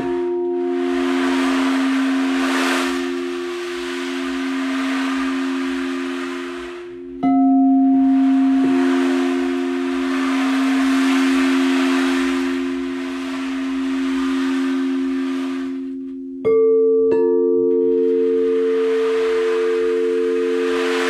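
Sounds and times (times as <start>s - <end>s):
stream rushing: 0.0s - 7.2s, 8.1s - 15.9s, 18.0s - 21.0s
singing bowl strikes: 0.0s - 21.0s
singing bowls ringing: 0.0s - 21.0s.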